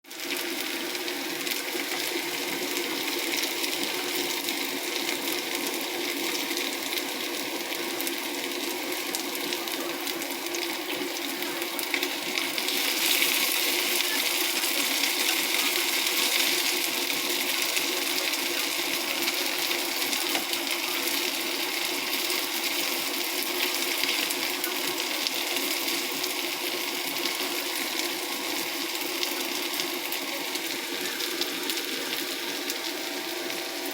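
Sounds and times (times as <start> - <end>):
hot oil sizzling and crackling: 0.0 - 33.9.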